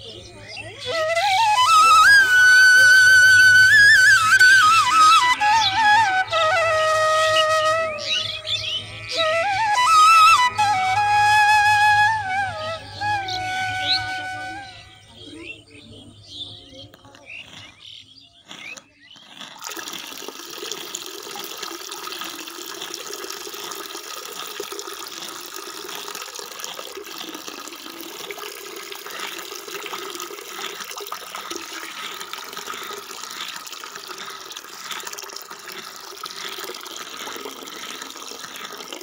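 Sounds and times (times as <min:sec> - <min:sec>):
water trickling into a trough: 0:00.0 - 0:15.5, 0:16.9 - 0:39.0.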